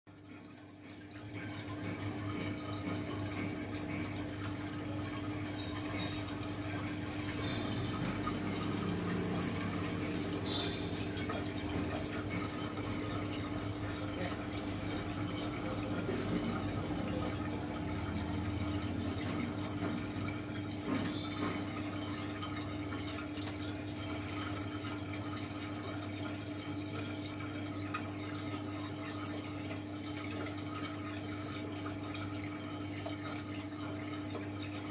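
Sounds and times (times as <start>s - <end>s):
aquarium water trickling: 0.1s - 34.9s
pump humming: 0.1s - 34.9s.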